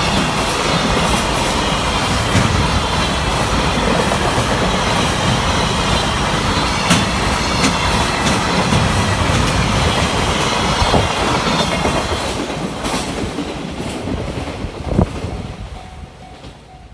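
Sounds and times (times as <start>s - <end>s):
wheels clattering over rail joints: 0.0s - 15.4s
freight wagons rumbling: 0.0s - 16.7s.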